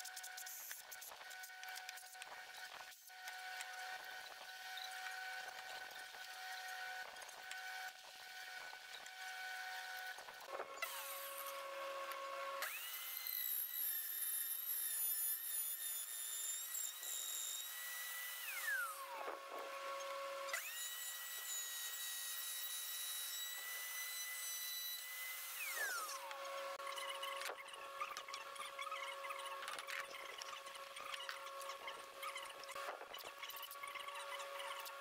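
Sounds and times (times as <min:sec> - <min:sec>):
router high whine: 0:00.0 - 0:35.0
router winding down: 0:01.4 - 0:35.0.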